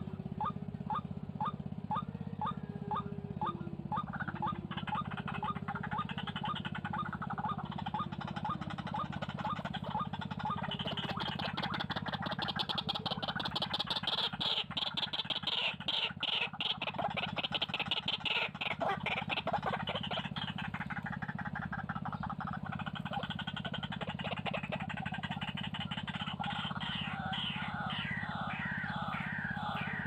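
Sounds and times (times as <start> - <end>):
steady low hum: 0.0 - 30.0
waterhen harsh chattering calls: 0.0 - 30.0.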